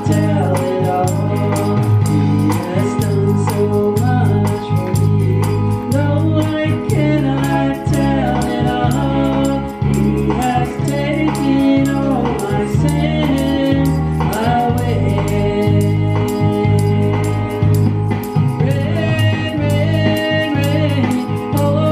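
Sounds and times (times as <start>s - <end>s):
woman singing into microphone: 0.0s - 17.7s
instrumental accompaniment: 0.0s - 21.9s.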